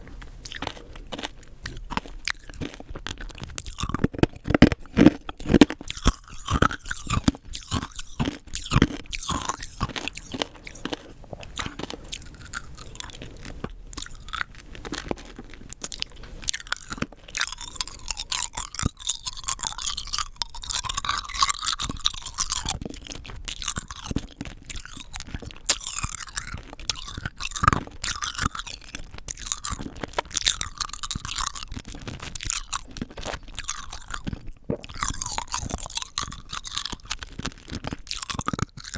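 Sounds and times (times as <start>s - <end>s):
rock candy crunching between teeth: 0.1s - 38.9s.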